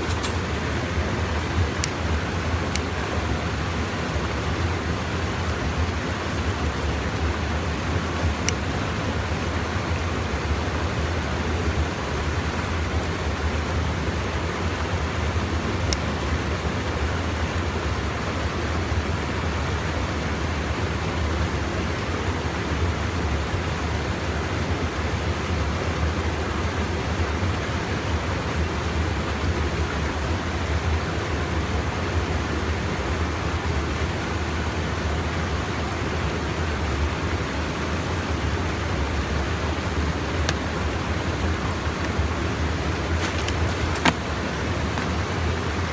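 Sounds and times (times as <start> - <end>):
stream water pouring over dam: 0.0 - 45.9.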